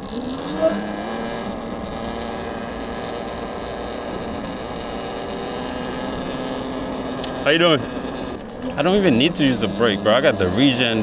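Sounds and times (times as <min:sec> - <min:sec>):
electric dirt bike motor whining: 0:00.0 - 0:11.0.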